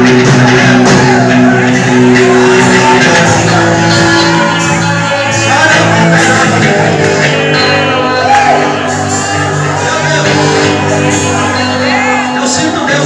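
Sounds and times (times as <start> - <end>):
voices calling out: 0.0 - 13.0
worship music with voices singing: 0.0 - 13.0.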